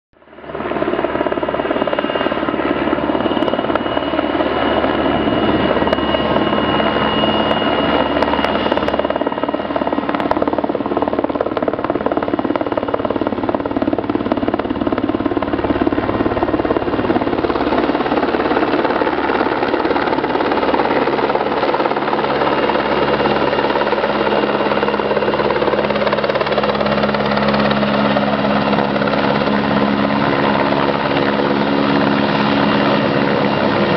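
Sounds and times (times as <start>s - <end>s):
helicopter rotor and engine: 0.2s - 33.9s.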